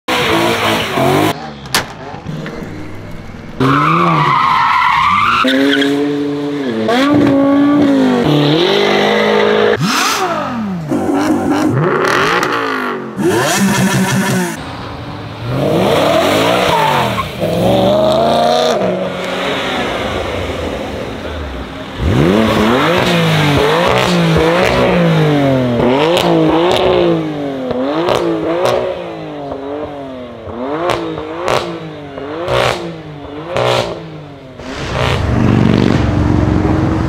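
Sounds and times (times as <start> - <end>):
car engines revving: 0.1 - 37.0.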